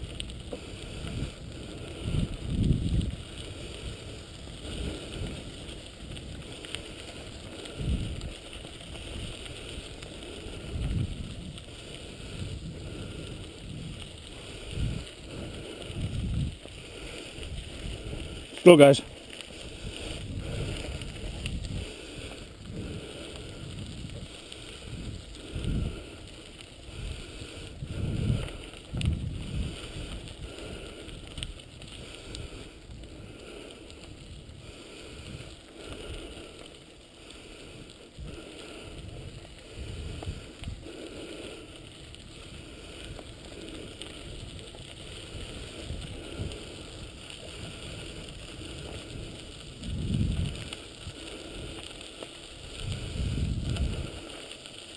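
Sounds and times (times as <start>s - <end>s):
wind buffeting microphone: 0.0s - 36.5s, 37.3s - 51.9s, 52.6s - 54.3s
wheels rolling over gravel: 0.0s - 54.9s.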